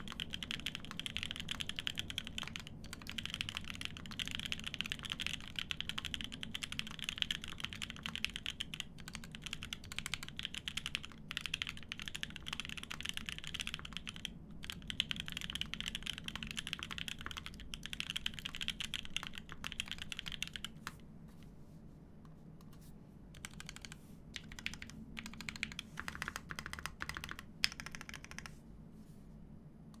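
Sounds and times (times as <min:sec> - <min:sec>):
mechanical keyboard typing: 0:00.0 - 0:21.0, 0:23.4 - 0:28.6.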